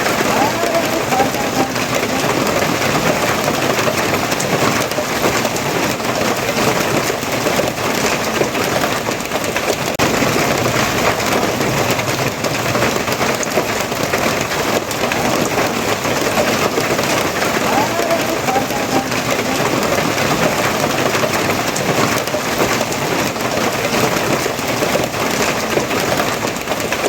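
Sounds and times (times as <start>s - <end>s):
heavy rain pattering: 0.0s - 27.0s.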